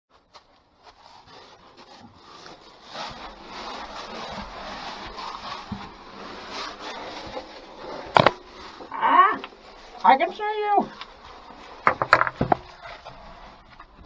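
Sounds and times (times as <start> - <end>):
rubbing and scraping: 0.1 - 14.0.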